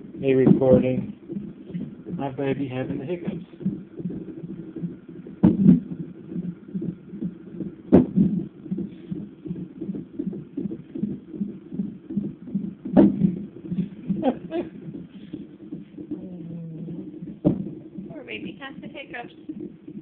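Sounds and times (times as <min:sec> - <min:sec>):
fetal heartbeat whooshing pulse: 0:00.0 - 0:20.0.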